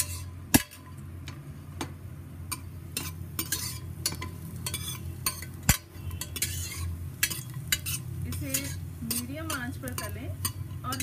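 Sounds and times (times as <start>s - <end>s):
metal spoon clinking against pot: 0.0s - 1.0s, 2.5s - 11.0s
food sizzling in hot oil: 0.0s - 1.2s, 1.9s - 11.0s.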